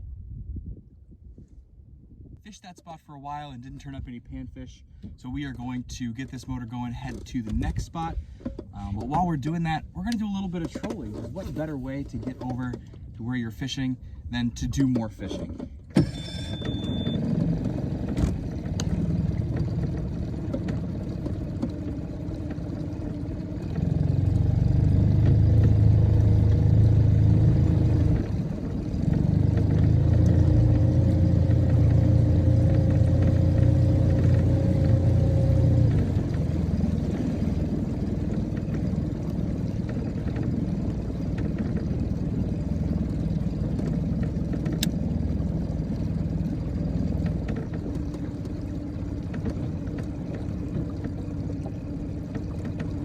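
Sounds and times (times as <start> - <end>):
outboard motor humming: 3.6 - 53.0.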